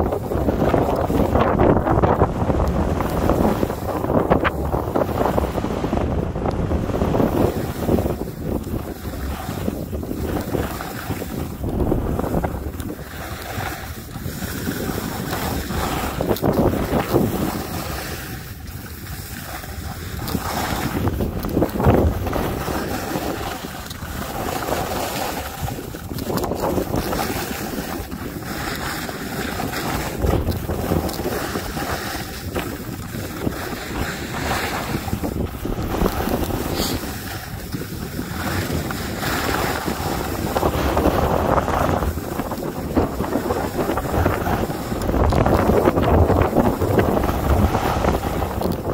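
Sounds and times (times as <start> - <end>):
skis scraping over snow: 0.0 - 48.9
wind rushing over microphone: 0.0 - 48.9.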